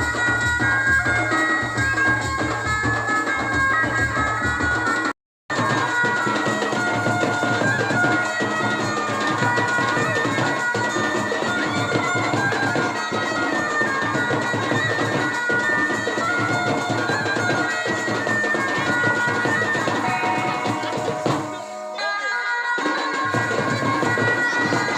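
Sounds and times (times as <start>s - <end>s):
drums: 0.0s - 24.9s
reedy wind instrument melody: 0.0s - 24.9s.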